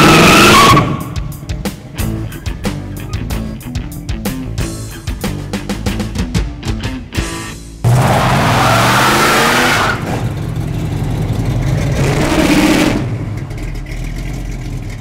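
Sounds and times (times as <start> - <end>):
car engine revving: 0.0 - 4.5, 7.4 - 15.0.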